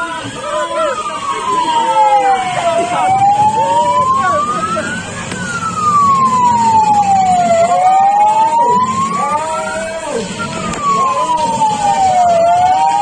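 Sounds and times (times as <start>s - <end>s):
fire engine siren wailing: 0.0s - 13.0s.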